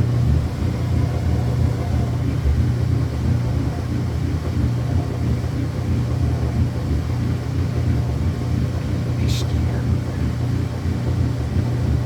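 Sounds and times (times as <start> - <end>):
washing machine spinning: 0.0 - 9.2, 9.9 - 12.0.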